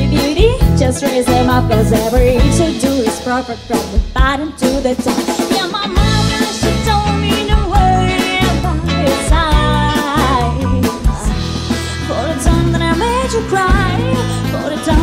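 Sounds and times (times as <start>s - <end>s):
live pop band playing: 0.0s - 15.0s
woman singing lead vocal: 0.0s - 15.0s.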